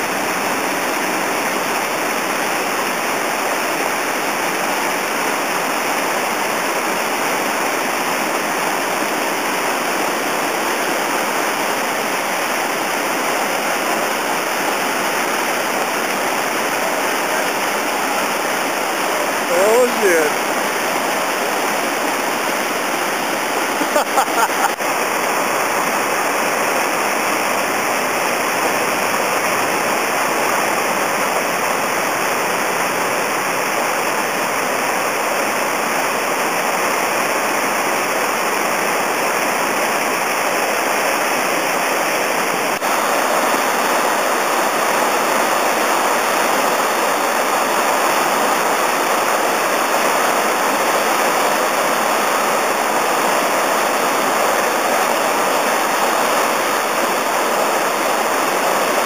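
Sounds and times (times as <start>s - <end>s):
whitewater rushing: 0.0s - 59.0s.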